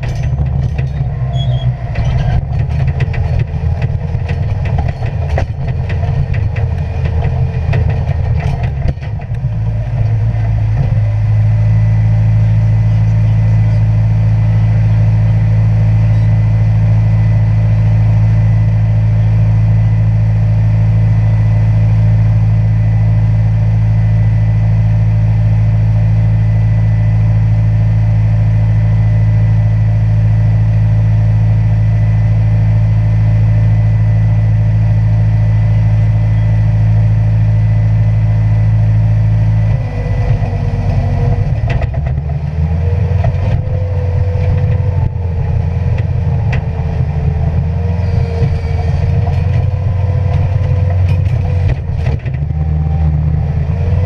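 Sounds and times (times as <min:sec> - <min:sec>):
wavering machine whine: 0:00.0 - 0:25.1, 0:32.0 - 0:54.0
diesel engine running: 0:00.0 - 0:54.0.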